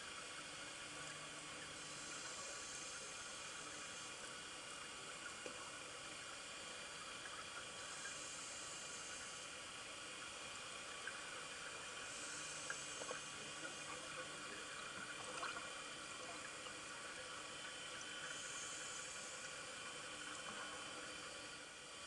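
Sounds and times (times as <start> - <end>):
faint steady underwater hiss: 0.0 - 22.0
bubbling hiss rush: 1.7 - 22.0.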